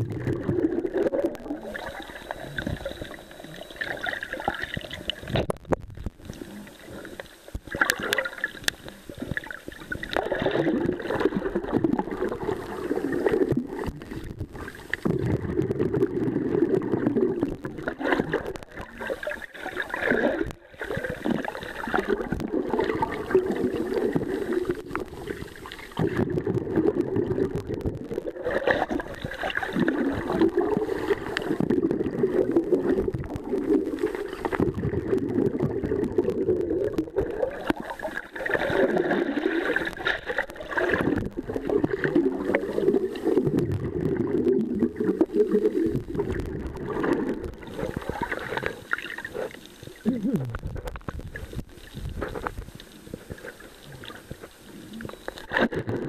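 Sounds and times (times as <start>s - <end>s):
muffled underwater rushing water: 0.0s - 56.0s.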